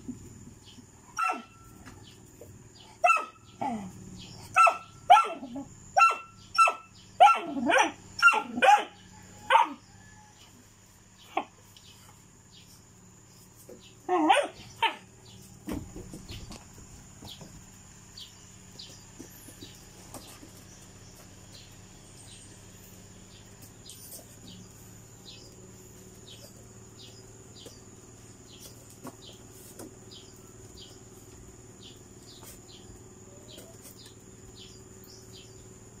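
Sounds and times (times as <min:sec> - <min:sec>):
small bird chirping: 0:00.0 - 0:36.0.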